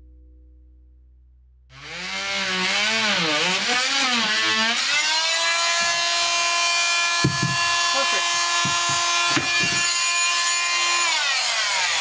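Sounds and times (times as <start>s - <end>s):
electric power saw cutting board: 1.7s - 12.0s.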